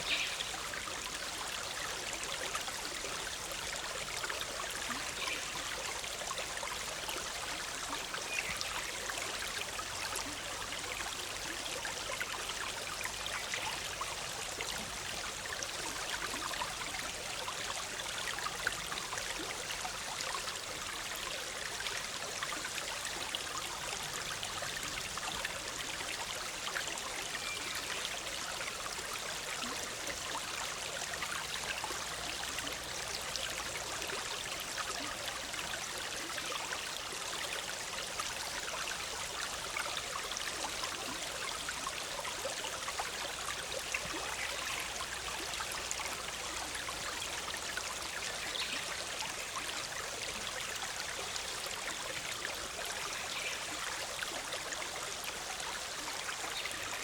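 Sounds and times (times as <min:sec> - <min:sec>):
stream bubbling: 0:00.0 - 0:57.0.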